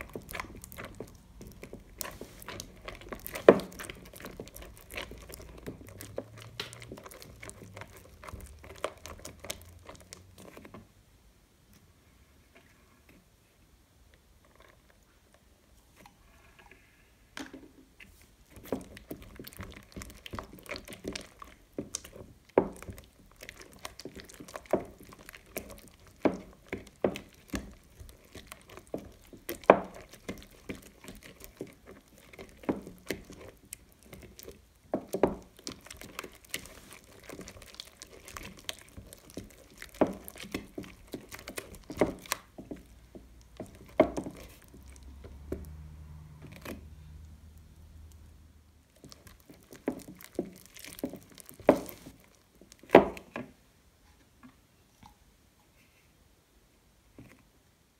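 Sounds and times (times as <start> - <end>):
slime squelching: 0.0 - 10.9, 18.0 - 53.6.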